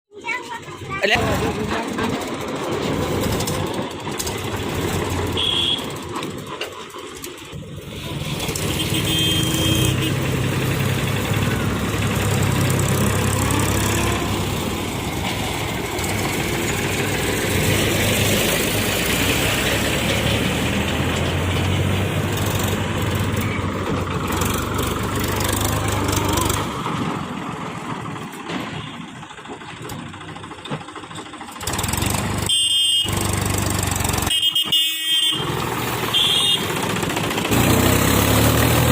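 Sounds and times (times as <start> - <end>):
heavy diesel engines working: 0.1 - 38.9.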